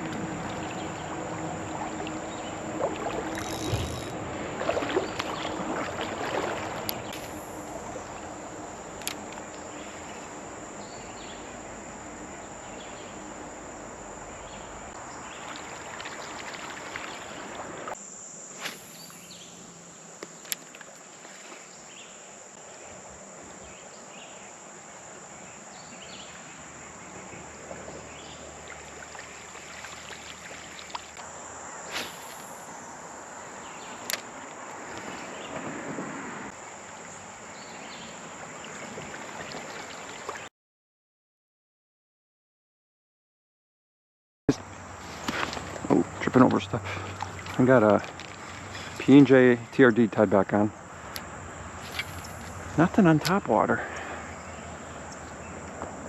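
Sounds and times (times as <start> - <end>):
insect drone: 0.0 - 40.4, 44.6 - 56.0
water noise: 0.0 - 40.5, 44.5 - 56.0.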